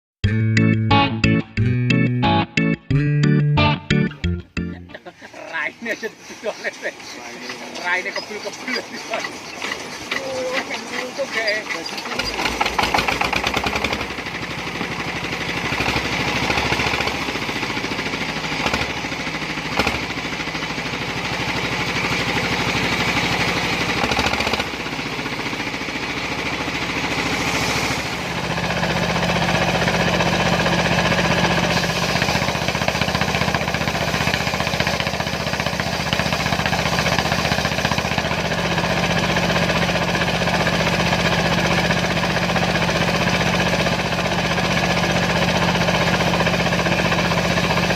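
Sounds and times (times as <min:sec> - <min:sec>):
diesel engine knocking: 0:05.3 - 0:47.9.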